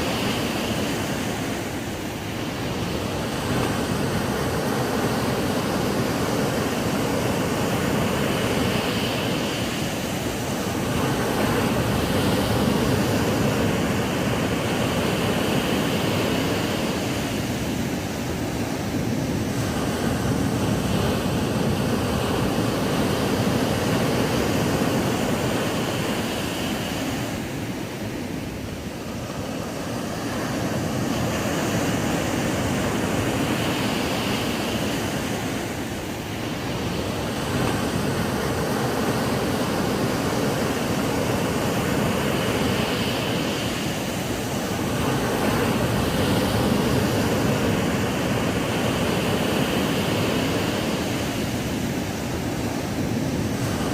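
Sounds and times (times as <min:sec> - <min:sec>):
ocean waves breaking on beach: 0:00.0 - 0:53.9.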